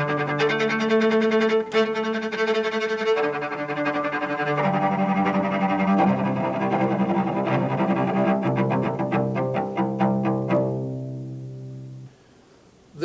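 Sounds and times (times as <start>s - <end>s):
cello bounced bow notes: 0.0s - 12.2s.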